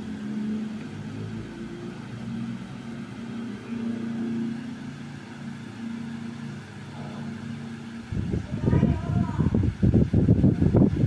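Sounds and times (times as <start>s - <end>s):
wall fan humming: 0.0s - 11.0s.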